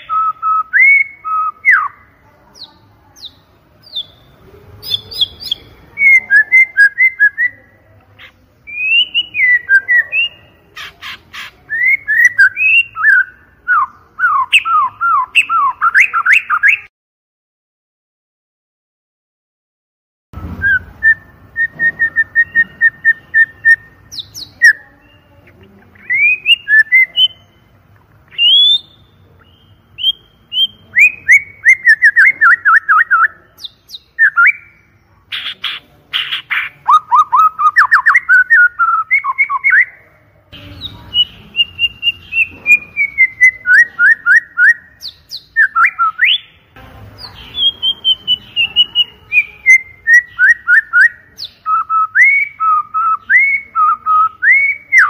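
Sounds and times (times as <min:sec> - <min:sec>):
bird whistling and trilling: 0:00.0 - 0:02.0, 0:02.6 - 0:07.6, 0:08.7 - 0:16.9, 0:20.4 - 0:25.3, 0:25.9 - 0:27.7, 0:28.3 - 0:40.0, 0:40.6 - 0:46.6, 0:47.3 - 0:55.0.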